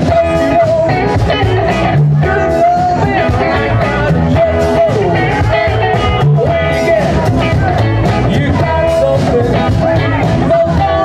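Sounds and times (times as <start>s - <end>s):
bass: 0.0s - 11.0s
drums: 0.0s - 11.0s
electric guitar: 0.0s - 11.0s
lead singer: 0.0s - 11.0s.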